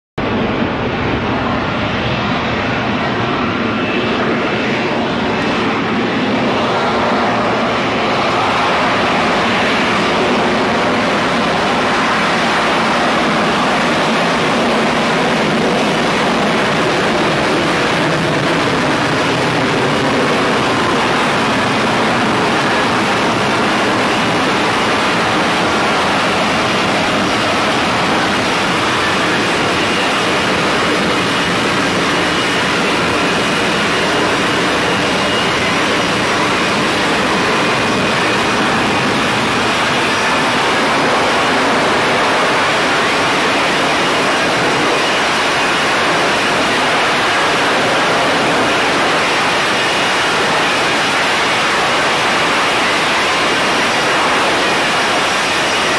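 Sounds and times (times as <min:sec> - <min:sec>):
jet engine roaring: 0:00.2 - 0:55.9.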